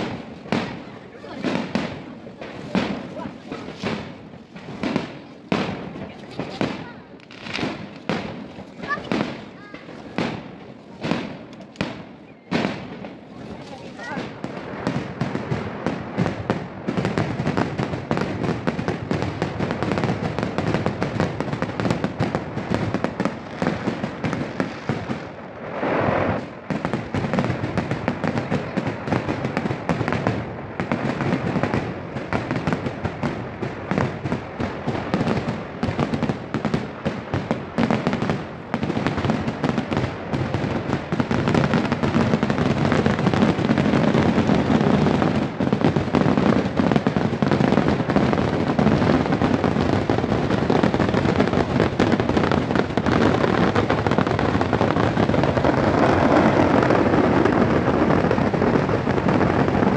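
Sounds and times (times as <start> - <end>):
firecracker bangs: 0.0 - 59.9.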